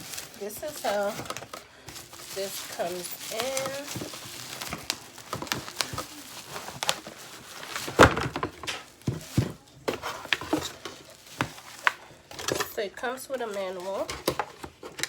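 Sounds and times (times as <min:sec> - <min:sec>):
cardboard box being handled: 0:00.0 - 0:12.6.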